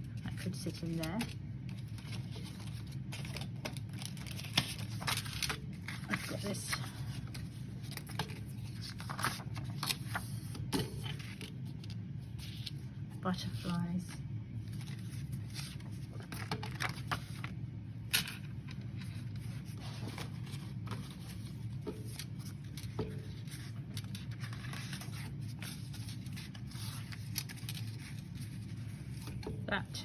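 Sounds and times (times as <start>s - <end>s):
paper rustling and shuffling: 0.0s - 30.0s
steady low hum: 0.0s - 30.0s.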